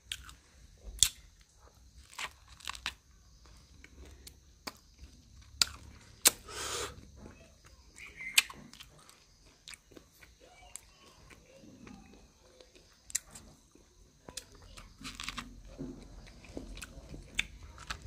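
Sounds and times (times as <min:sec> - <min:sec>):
chewing corn on the cob: 0:00.0 - 0:06.4, 0:08.0 - 0:18.0.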